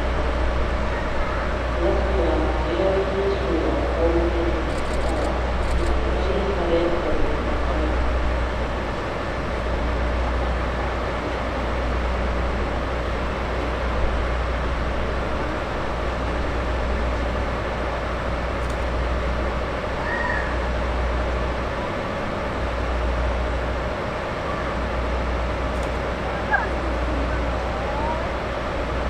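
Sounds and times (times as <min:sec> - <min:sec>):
diesel locomotive engine rumble: 0:00.0 - 0:29.0
rail and station noise: 0:00.0 - 0:29.0.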